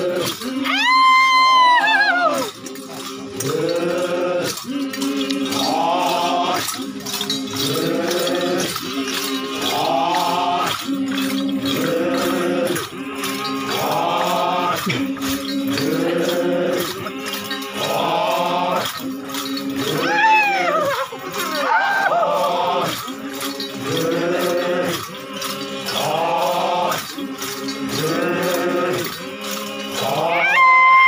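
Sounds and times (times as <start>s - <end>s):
men chanting in unison: 0.0s - 31.0s
sharp rhythmic clicks: 0.0s - 31.0s.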